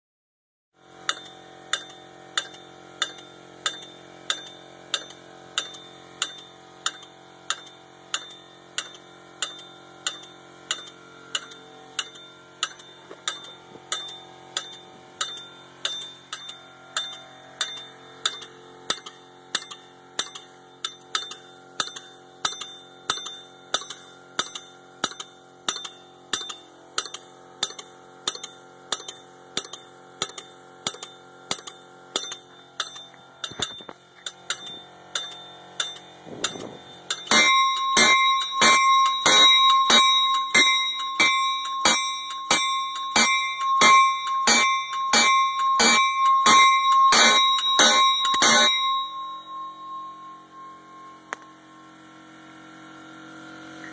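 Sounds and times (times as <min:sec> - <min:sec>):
locomotive bell ringing: 0:01.1 - 0:24.6, 0:32.2 - 0:52.5.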